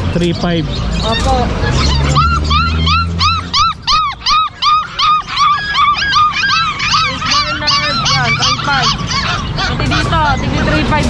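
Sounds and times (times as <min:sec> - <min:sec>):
puppies yelping: 0:00.7 - 0:11.0.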